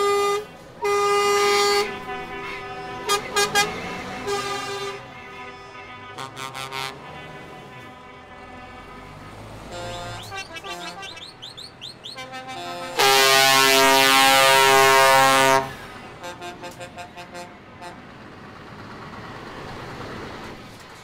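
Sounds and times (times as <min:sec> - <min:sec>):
truck air horn blast: 0:00.0 - 0:18.0.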